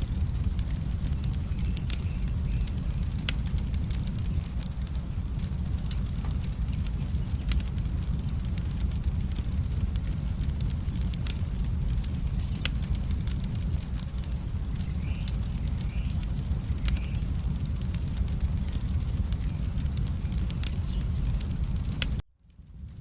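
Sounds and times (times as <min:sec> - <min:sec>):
fire crackling and popping: 0:00.0 - 0:23.0
low steady rumble: 0:00.0 - 0:23.0.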